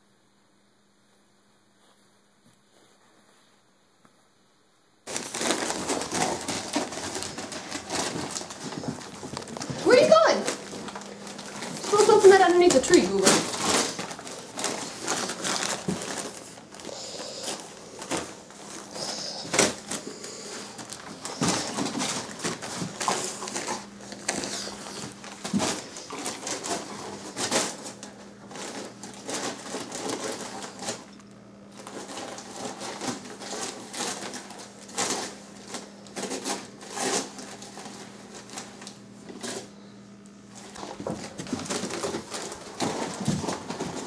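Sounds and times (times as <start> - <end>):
wrapping paper ripping: 5.1 - 31.1, 31.7 - 39.7, 40.5 - 44.0.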